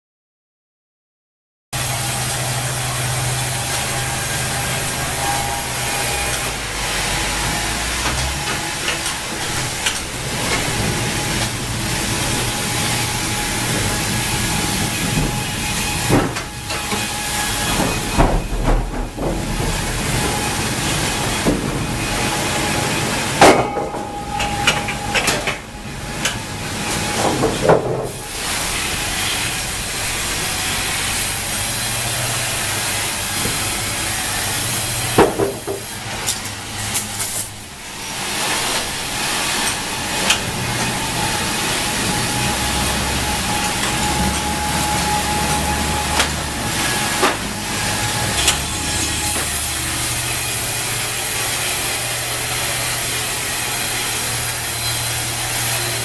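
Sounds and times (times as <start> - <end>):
band saw hissing with whine: 1.8 - 56.0.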